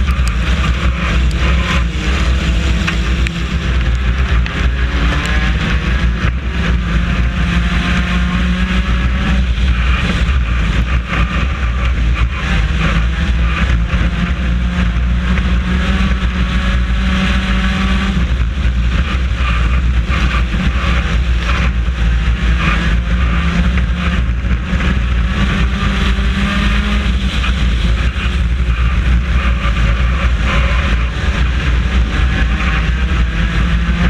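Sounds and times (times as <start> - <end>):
race car engine running hard: 0.0 - 34.0
wind and road noise: 0.0 - 34.0.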